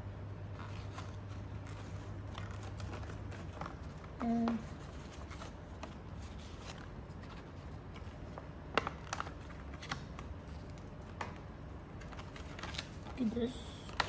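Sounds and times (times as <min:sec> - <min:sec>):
paper being folded and creased: 0:00.5 - 0:14.0.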